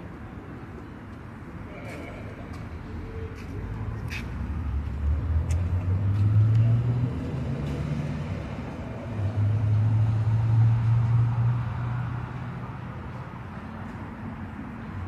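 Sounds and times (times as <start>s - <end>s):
vehicle engine hum: 0.2s - 15.0s.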